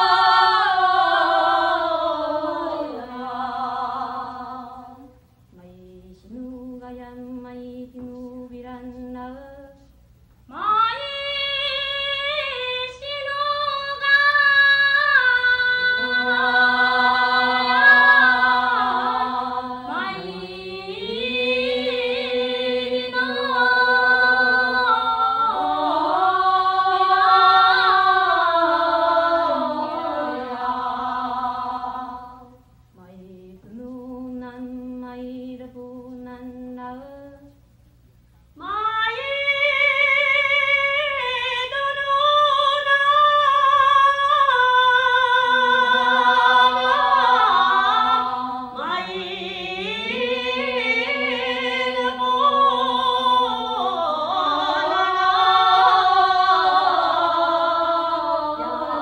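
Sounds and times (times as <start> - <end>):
woman singing unaccompanied: 0.0 - 37.6, 38.6 - 59.0.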